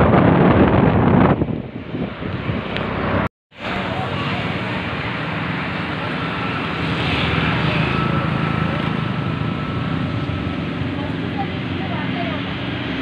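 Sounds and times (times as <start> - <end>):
street traffic with engines: 0.0 - 13.0
wind rushing over microphone: 0.0 - 13.0.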